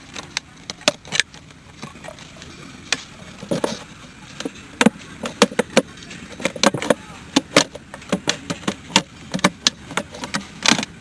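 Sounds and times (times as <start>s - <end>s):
sharp clicks and knocks: 0.0s - 11.0s.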